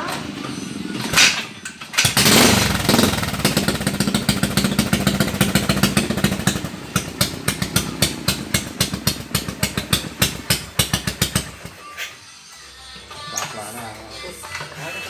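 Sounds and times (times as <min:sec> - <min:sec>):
motorcycle engine starting and idling: 0:00.0 - 0:12.1.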